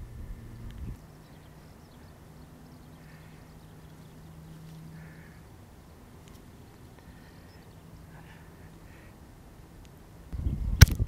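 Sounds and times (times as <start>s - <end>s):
faint distant calls: 0.0s - 10.4s
steady low hum: 0.0s - 11.0s.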